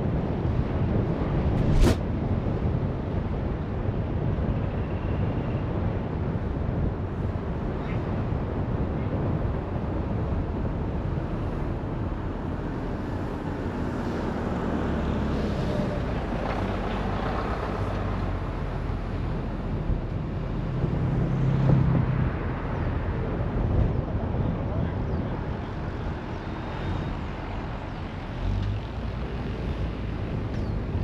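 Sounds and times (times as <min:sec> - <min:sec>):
car engine and tyre noise: 0:00.0 - 0:31.0.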